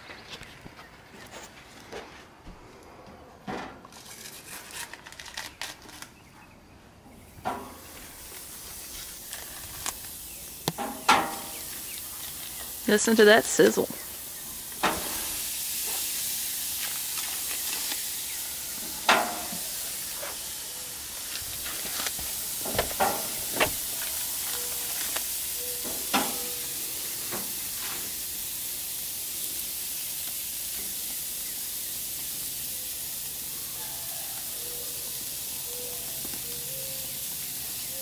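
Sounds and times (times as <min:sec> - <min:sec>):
patties sizzling on grill: 0:07.2 - 0:38.0.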